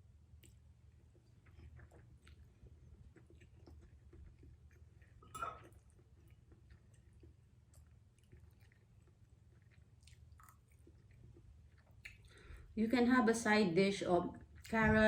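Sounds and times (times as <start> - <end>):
person chewing noodles: 0.0 - 12.7.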